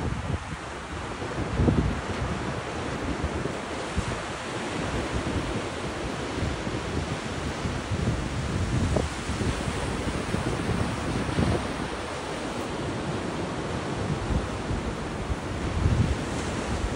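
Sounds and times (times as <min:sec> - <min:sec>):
ocean surf breaking on beach: 0:00.0 - 0:16.9
wind buffeting microphone: 0:00.0 - 0:16.9.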